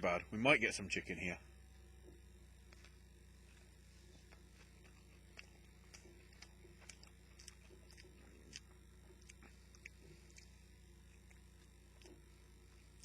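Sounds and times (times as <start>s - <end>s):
faint chewing: 2.0s - 13.0s.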